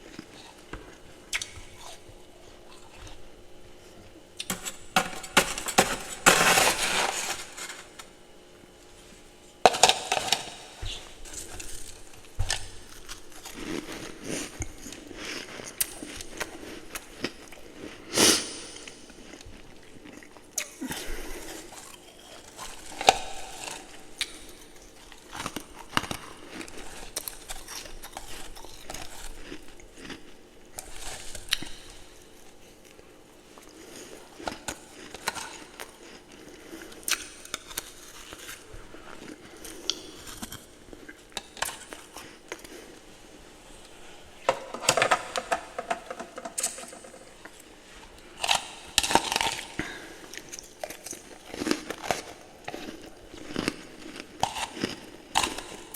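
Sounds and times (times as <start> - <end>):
ice being chewed: 0.0 - 8.2, 8.8 - 55.9.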